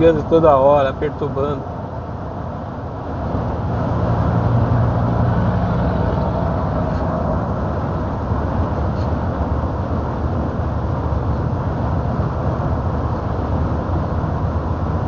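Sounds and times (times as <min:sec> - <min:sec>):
road noise: 0:00.0 - 0:15.0
truck engine running: 0:00.0 - 0:15.0.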